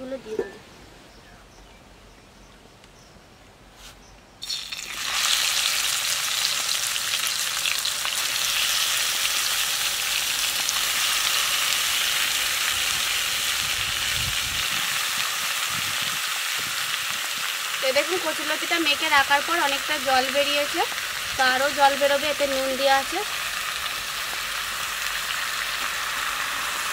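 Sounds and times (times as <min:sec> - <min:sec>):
vegetables frying in hot oil: 0:04.4 - 0:26.9.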